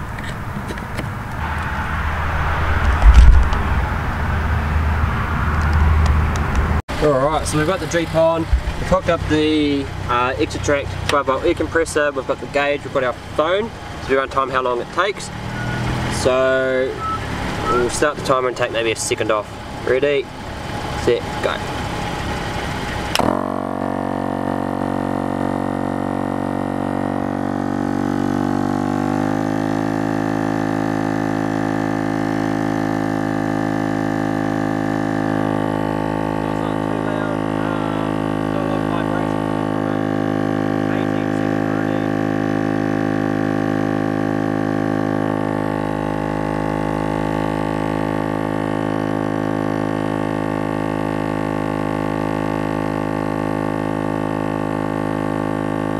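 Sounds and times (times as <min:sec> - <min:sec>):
air compressor droning: 0:06.9 - 0:55.9.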